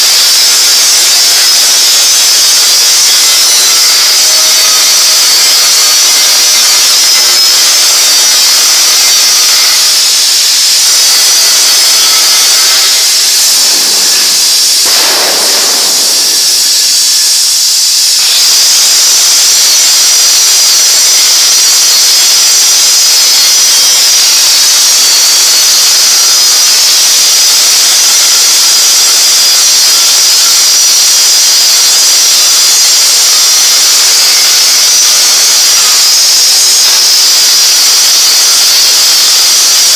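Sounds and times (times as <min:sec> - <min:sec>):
cutting torch hissing: 0:00.0 - 0:39.9.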